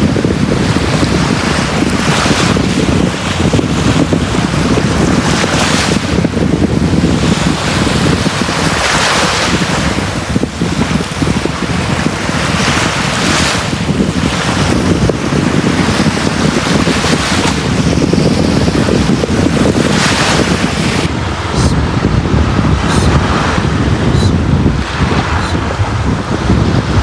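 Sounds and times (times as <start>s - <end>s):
waves breaking on beach: 0.0s - 27.0s
wind rumble on microphone: 0.0s - 27.0s.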